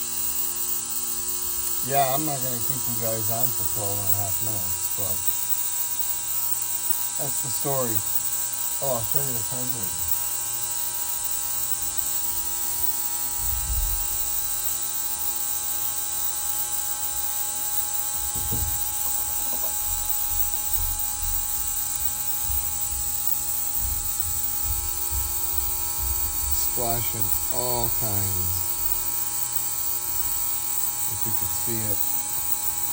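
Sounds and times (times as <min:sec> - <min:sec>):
ultrasonic cleaner buzzing: 0:00.0 - 0:32.9.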